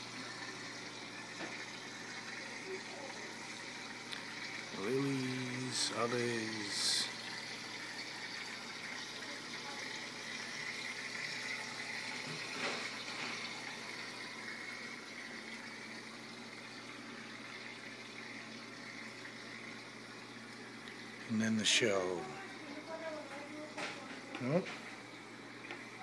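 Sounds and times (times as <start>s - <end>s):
water splashing into aquarium: 0.0s - 26.0s.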